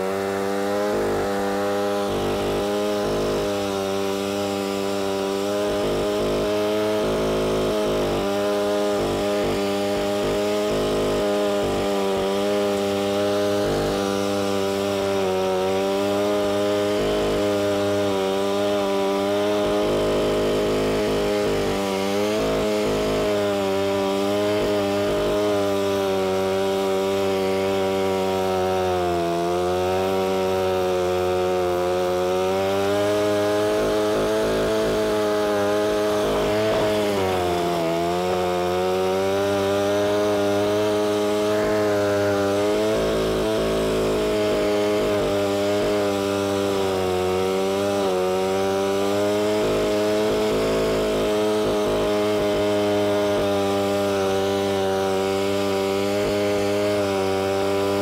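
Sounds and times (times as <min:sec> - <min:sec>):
cutter digging through soil: 0:00.0 - 0:58.0
stump grinder engine running: 0:00.0 - 0:58.0.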